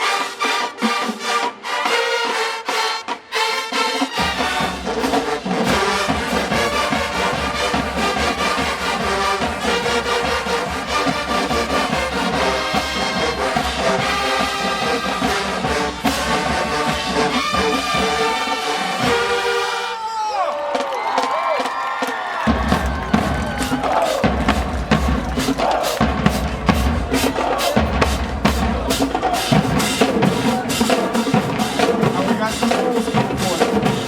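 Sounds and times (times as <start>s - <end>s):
marching band playing: 0.0s - 20.0s, 20.6s - 34.0s
drums: 0.0s - 34.0s.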